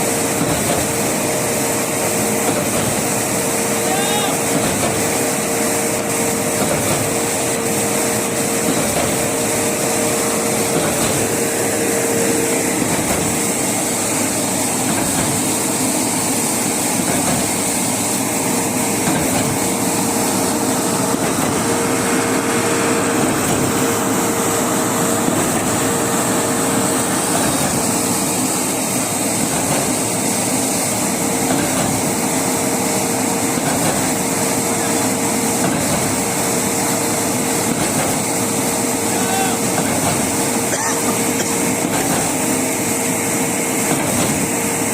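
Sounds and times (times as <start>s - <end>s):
construction machinery with whine: 0.0s - 44.9s.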